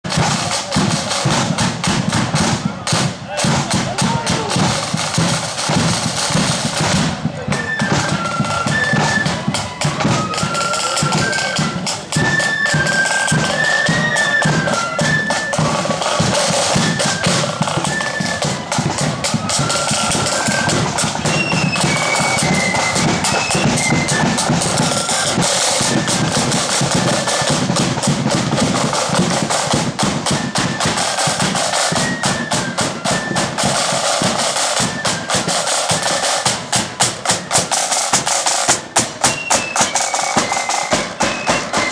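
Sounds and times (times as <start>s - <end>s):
flutes playing a lively melody: 0.0s - 41.9s
side drums and bass drums: 0.0s - 41.9s.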